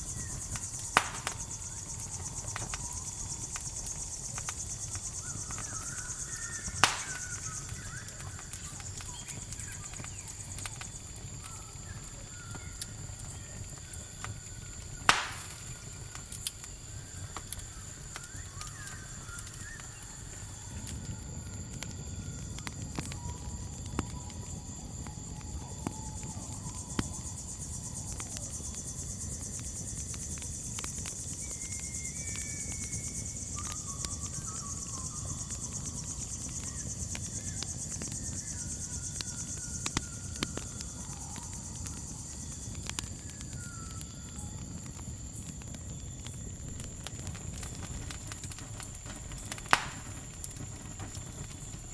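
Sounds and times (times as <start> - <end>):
campfire crackling: 0.0 - 51.9
crickets chirring: 0.0 - 51.9.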